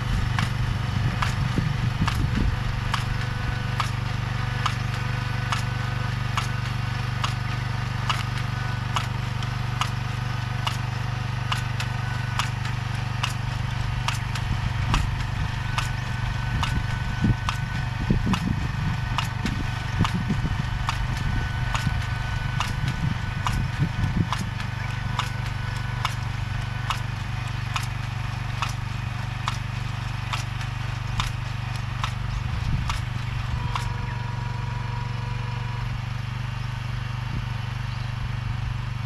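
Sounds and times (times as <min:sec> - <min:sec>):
machine engine running: 0:00.0 - 0:39.0
sharp machine clicks: 0:00.2 - 0:34.2.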